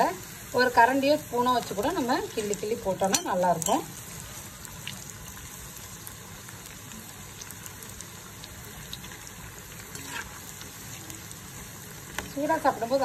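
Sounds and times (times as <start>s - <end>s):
batter deep-frying in oil: 0.0s - 13.0s.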